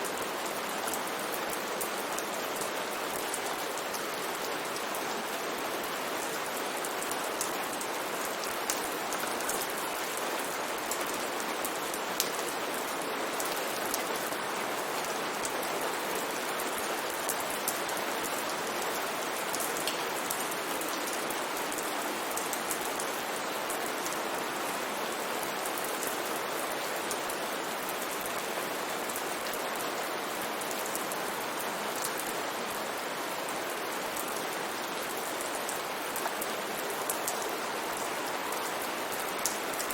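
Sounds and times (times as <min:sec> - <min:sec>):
raindrops ticking on surface: 0:00.0 - 0:29.9, 0:30.5 - 0:39.9
steady rain hiss: 0:00.0 - 0:39.9.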